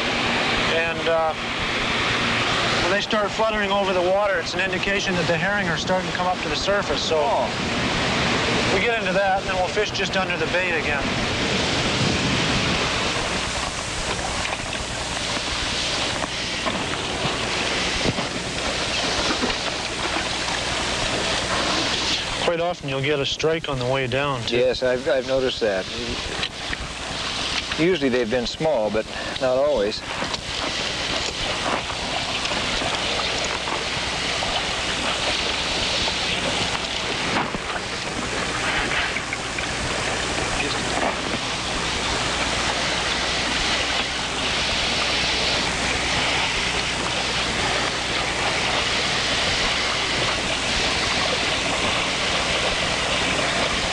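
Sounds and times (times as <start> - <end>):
wind noise on microphone: 0.0 - 22.6, 24.1 - 53.9
boat engine hum: 0.0 - 53.9
rushing water: 0.0 - 53.9.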